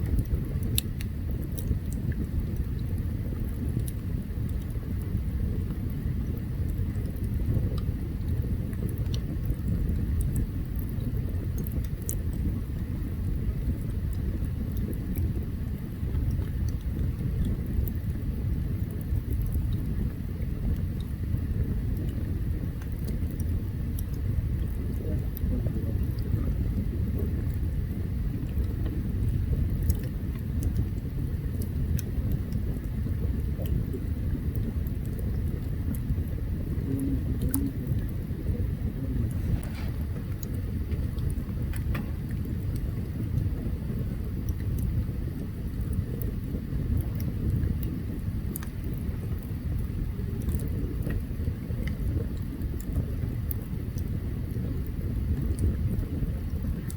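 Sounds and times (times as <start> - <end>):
campfire crackles and pops: 0.0 - 56.9
low fire rumble: 0.0 - 56.9.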